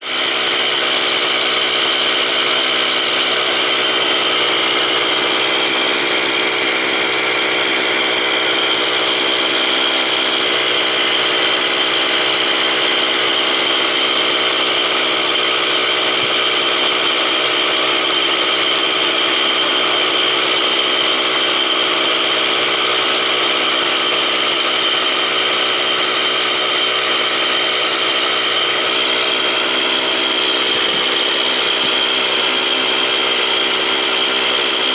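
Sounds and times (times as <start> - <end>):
model engine running: 0.0 - 34.9.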